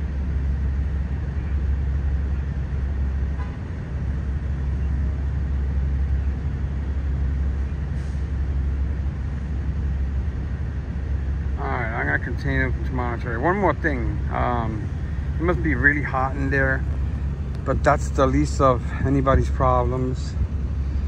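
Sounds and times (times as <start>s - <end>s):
engine rumbling: 0.0s - 21.0s.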